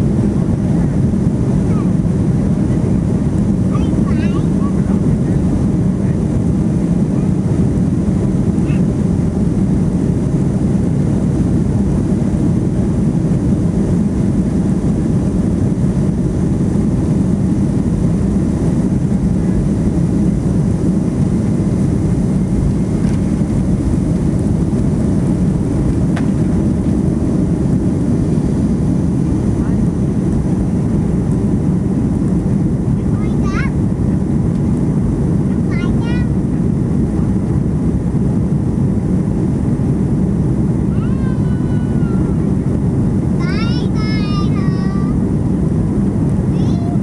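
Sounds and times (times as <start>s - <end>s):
airplane cabin roar: 0.0s - 47.0s.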